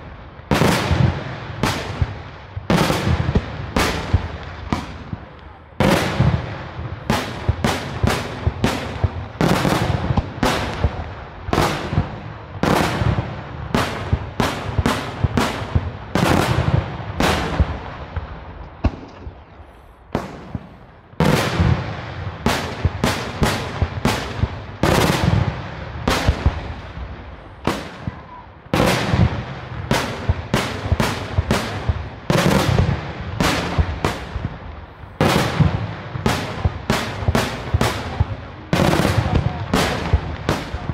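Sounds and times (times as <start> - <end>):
fireworks bangs with echo: 0.0 - 40.9.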